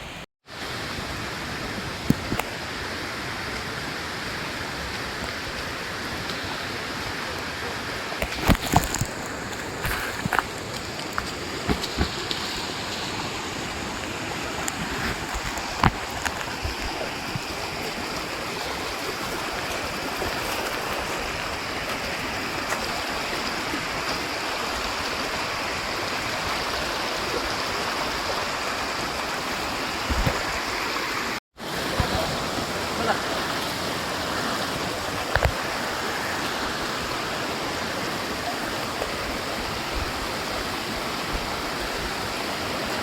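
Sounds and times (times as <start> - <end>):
small stream rushing: 0.0 - 43.0.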